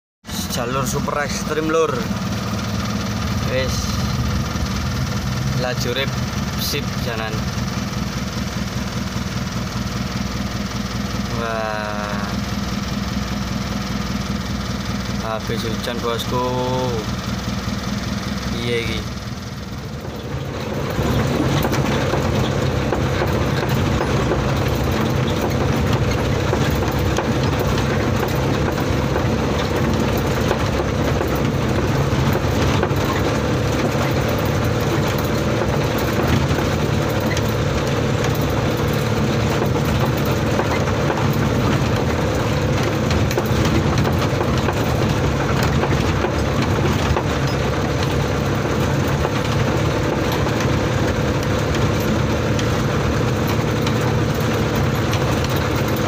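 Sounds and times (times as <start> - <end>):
knocks and rattles in cab: 0.3 - 56.0
truck engine running under load: 0.3 - 56.0.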